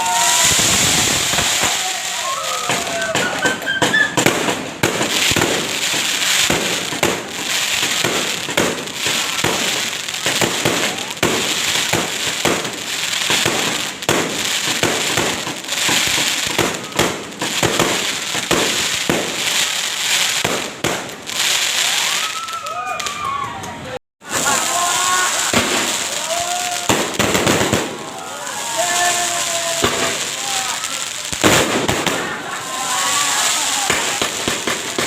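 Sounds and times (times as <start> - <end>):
crackling hiss: 0.0 - 22.7, 24.2 - 35.0
fireworks banging: 0.0 - 35.0.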